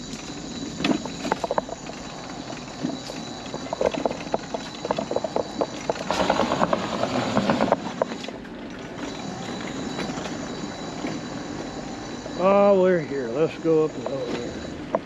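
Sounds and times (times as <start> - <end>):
scooter wheels on wooden planks: 0.0 - 15.0.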